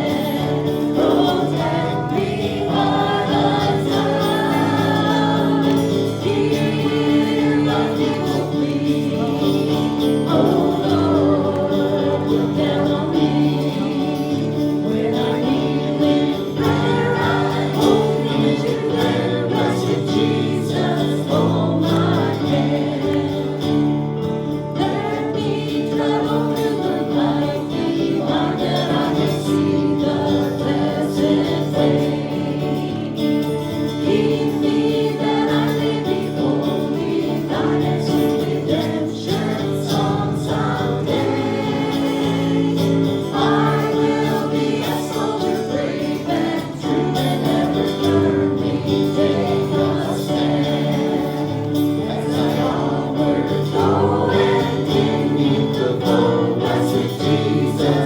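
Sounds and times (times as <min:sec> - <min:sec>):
choir singing a hymn with instruments: 0:00.0 - 0:58.0.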